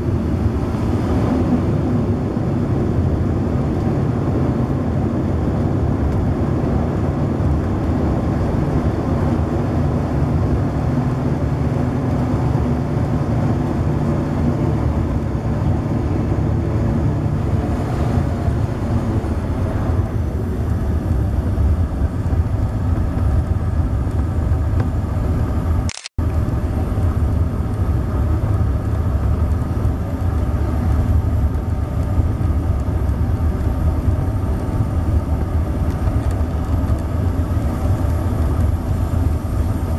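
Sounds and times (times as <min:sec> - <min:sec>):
engine whine: 0:00.0 - 0:39.9
turboprop engine drone: 0:00.0 - 0:39.9.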